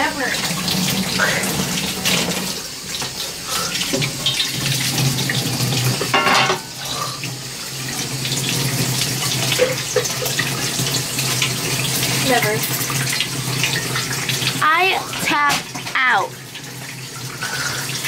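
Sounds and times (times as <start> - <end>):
tap water splashing into sink: 0.0 - 18.0.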